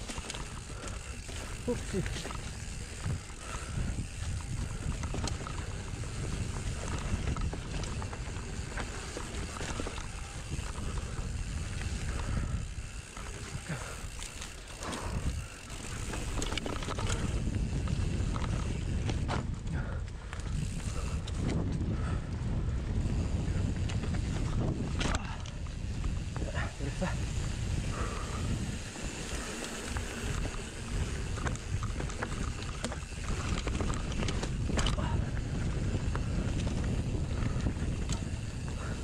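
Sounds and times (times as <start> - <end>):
wind on microphone: 0.0 - 14.3, 14.9 - 39.0
bike rattling and knocking: 0.0 - 39.0
tyres rumbling on dirt trail: 0.0 - 39.0.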